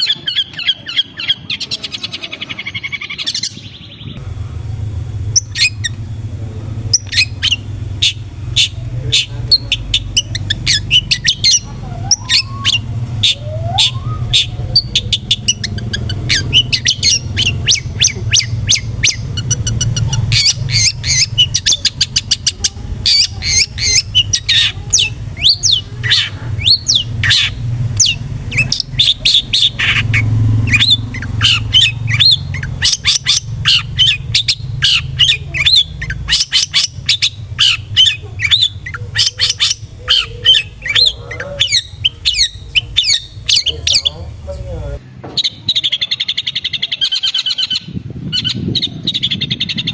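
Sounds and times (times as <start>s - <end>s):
low background hum: 0.0s - 49.9s
shrike harsh chattering calls: 0.0s - 49.9s.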